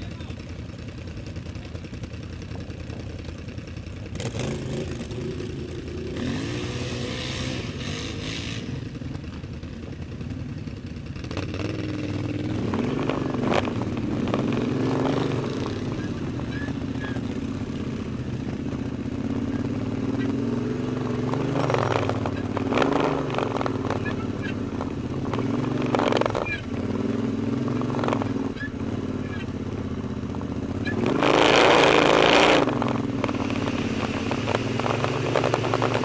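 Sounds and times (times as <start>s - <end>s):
quad bike engines revving: 0.0s - 36.0s.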